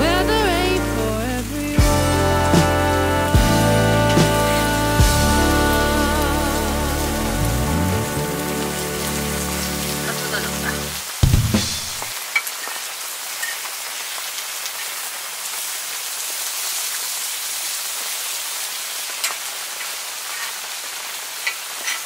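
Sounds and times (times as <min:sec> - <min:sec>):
meat sizzling on a pan: 0:01.8 - 0:22.0.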